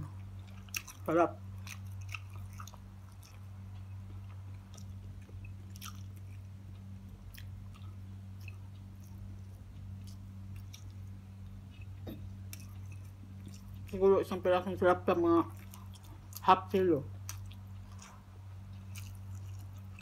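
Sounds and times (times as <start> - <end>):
person chewing food: 0.0 - 14.7, 15.4 - 16.5, 17.2 - 20.0
steady low hum: 0.0 - 20.0.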